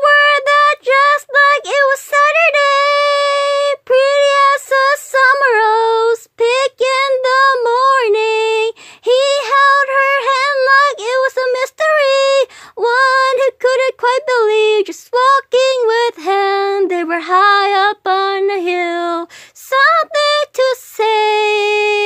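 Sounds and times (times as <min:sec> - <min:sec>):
high voice singing unaccompanied: 0:00.0 - 0:22.0.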